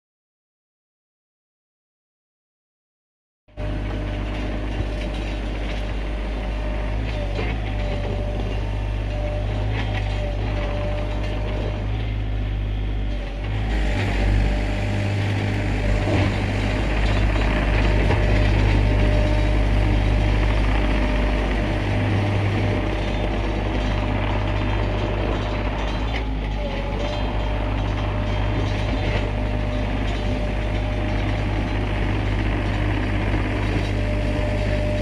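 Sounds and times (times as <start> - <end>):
excavator diesel engine running: 3.5 - 35.0.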